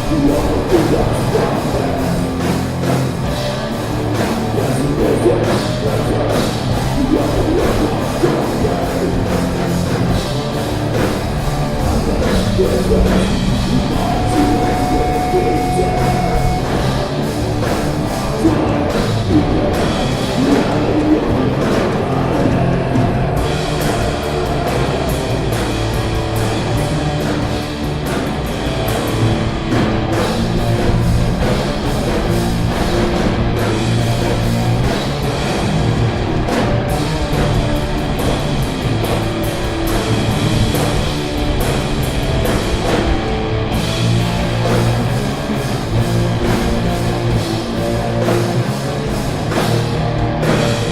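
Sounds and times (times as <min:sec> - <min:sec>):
metal band playing: 0:00.0 - 0:50.9.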